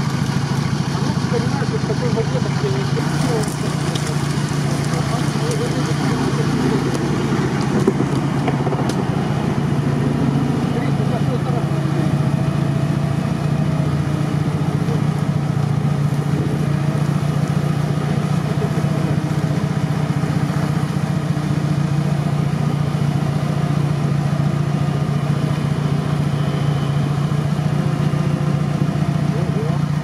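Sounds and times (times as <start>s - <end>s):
jeep engine running under load: 0.0s - 30.0s.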